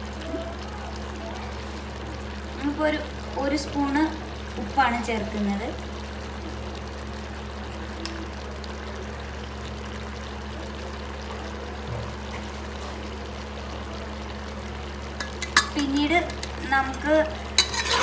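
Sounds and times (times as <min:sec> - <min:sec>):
chicken cooking in a pot: 0:00.0 - 0:18.0.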